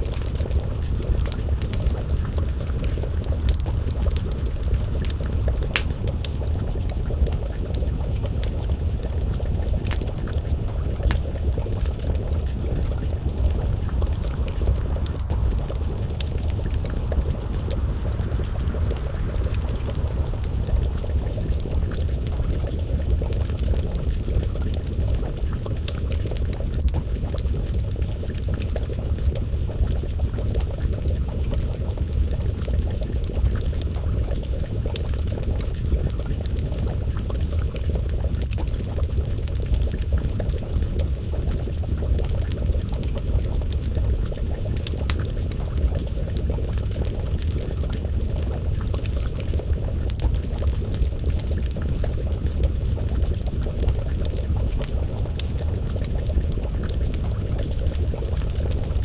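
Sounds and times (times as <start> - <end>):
stew bubbling in a pot: 0.0 - 59.0
wood fire crackling: 0.0 - 59.0.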